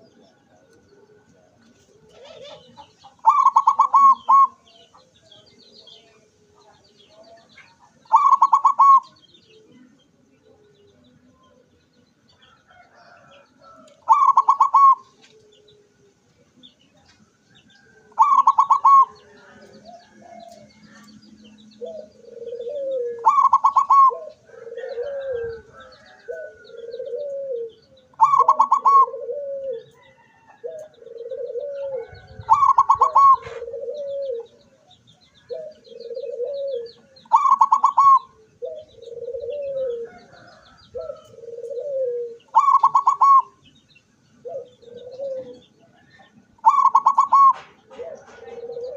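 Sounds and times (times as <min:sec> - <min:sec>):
lower-pitched dove coo: 0:00.0 - 0:11.8, 0:12.7 - 0:16.7, 0:17.7 - 0:43.6, 0:44.4 - 0:48.9
dove trilled cooing: 0:00.0 - 0:48.9.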